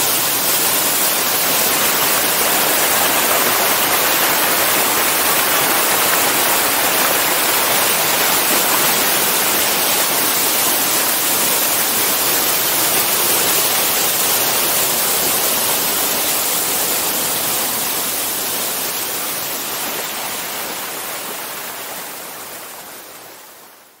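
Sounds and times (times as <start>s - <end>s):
waterfall rushing over rock: 0.0s - 24.0s.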